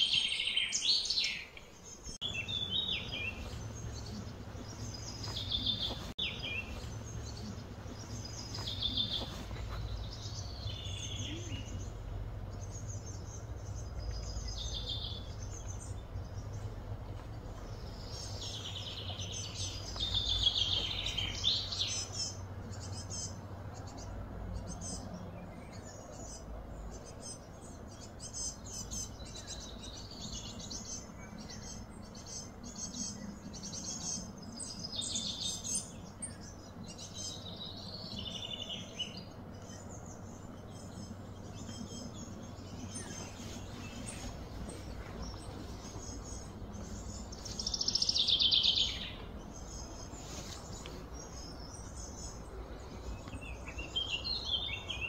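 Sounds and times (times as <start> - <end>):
faint steady hum: 0.0 - 55.0
small birds chirping and trilling: 0.0 - 55.0.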